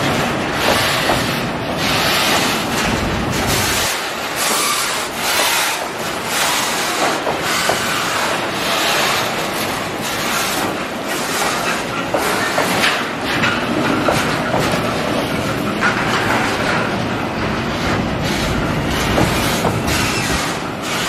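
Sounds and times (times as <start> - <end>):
freight train wheels rumbling: 0.0 - 21.0
wheels clacking over rail joints: 0.0 - 21.0.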